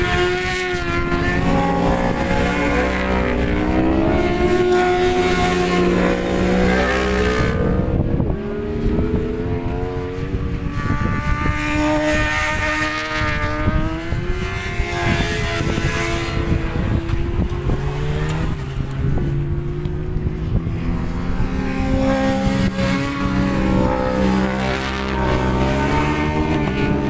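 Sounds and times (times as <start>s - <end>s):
racing motorcycle engines: 0.0s - 27.0s
wind buffeting microphone: 0.0s - 27.0s.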